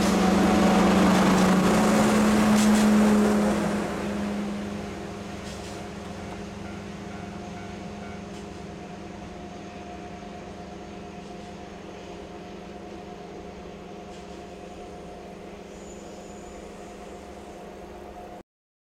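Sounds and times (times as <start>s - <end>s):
distant locomotive engine drone: 0.0s - 18.4s.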